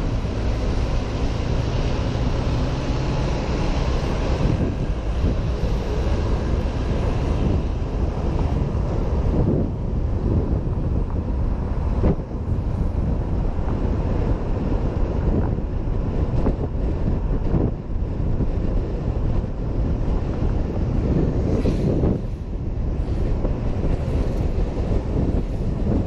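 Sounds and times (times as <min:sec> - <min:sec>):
road noise: 0:00.0 - 0:26.0
wind rushing over microphone: 0:00.0 - 0:26.0.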